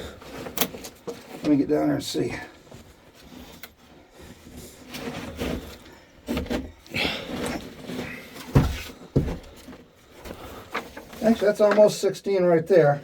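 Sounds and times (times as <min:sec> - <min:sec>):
scraping and shuffling on rock: 0:00.0 - 0:12.0.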